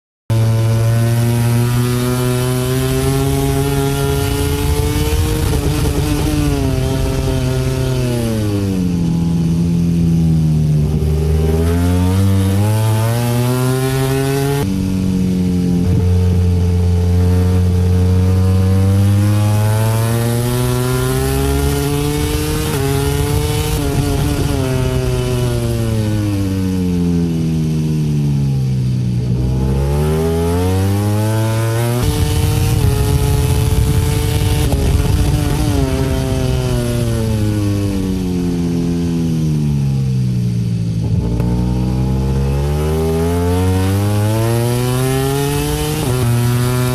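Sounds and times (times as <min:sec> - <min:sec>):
racing motorcycle engine at high revs: 0:00.3 - 0:46.9.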